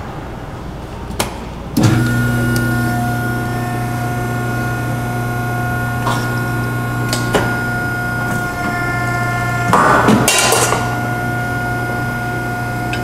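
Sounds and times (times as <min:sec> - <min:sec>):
hydraulic pump motor humming: 0:01.8 - 0:13.0.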